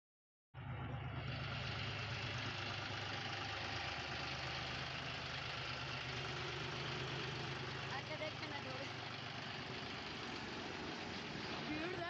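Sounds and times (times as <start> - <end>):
tractor diesel engine running: 0.6 - 12.0.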